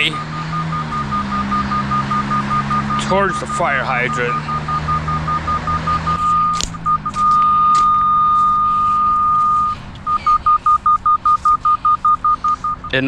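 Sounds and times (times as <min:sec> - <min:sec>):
fast even beeping: 0:00.0 - 0:13.0
locator beeps and tone: 0:00.0 - 0:13.0.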